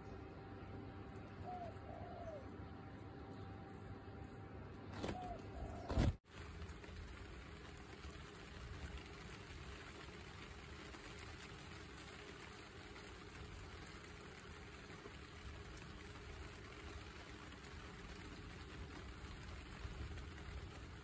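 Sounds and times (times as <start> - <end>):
guinea pig crunching grass: 1.0 - 4.5, 6.2 - 21.0.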